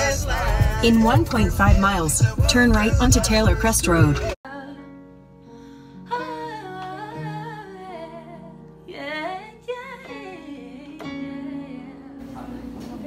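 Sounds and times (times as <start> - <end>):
person singing: 0.0 - 5.0, 6.0 - 13.0
held chords: 0.0 - 13.0.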